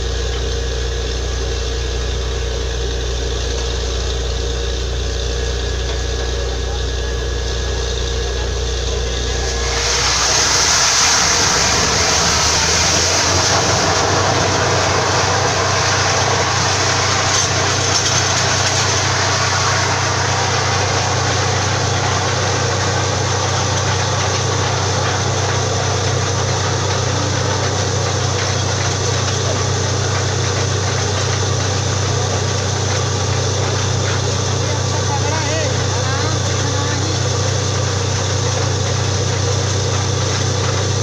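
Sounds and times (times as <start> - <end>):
drilling rig engine humming: 0.0 - 41.0.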